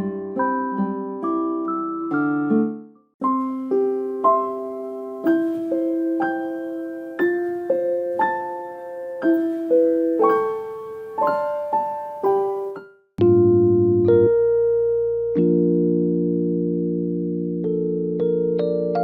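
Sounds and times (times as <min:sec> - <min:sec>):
slow piano lullaby melody: 0:00.0 - 0:19.0.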